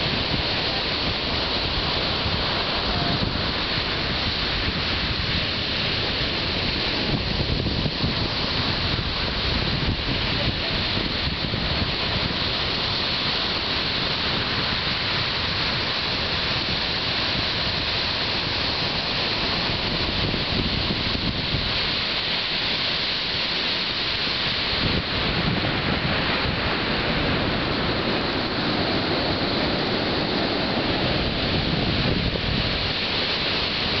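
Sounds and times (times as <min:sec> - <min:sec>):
surf washing onto shingle: 0:00.0 - 0:34.0
wind buffeting microphone: 0:00.0 - 0:34.0.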